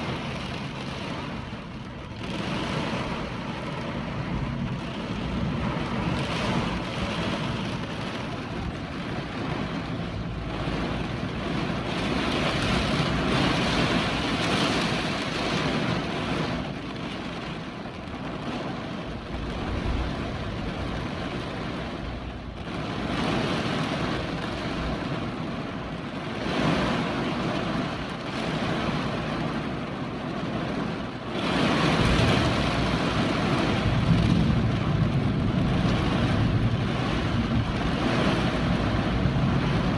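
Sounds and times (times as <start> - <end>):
wind gusting over microphone: 0.0 - 39.9.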